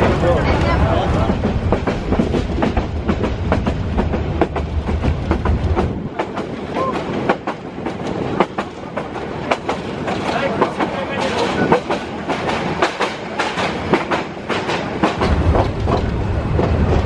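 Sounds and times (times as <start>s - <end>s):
train rumbling: 0.0s - 17.0s
train wheels clattering: 0.0s - 17.0s.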